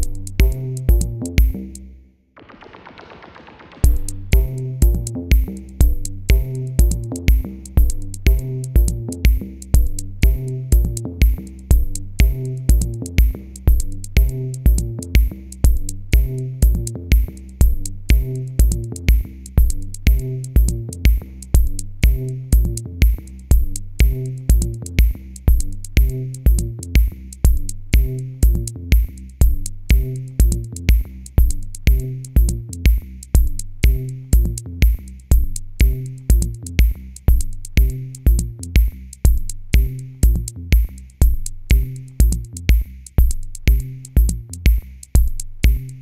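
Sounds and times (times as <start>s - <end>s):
electronic music with steady beat: 0.0s - 1.8s, 2.4s - 46.0s.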